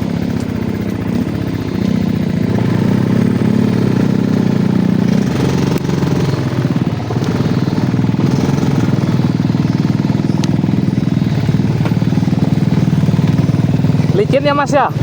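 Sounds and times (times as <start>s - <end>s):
sharp ticks: 0.0s - 14.2s
motorcycle engine running: 0.0s - 15.0s.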